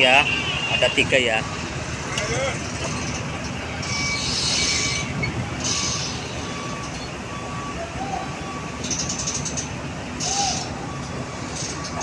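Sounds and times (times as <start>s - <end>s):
diesel truck engine rumble: 0.0s - 12.0s
reversing alarm beeping: 0.0s - 12.0s.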